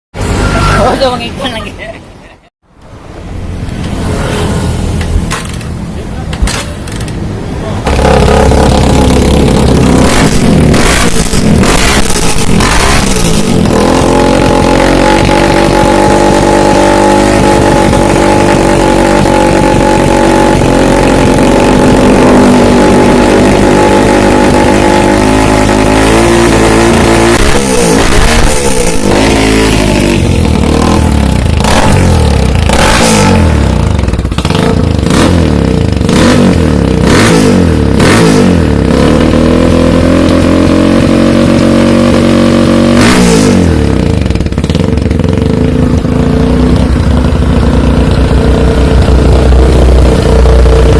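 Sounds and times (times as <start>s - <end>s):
motorcycle engine revving: 6.9s - 50.9s.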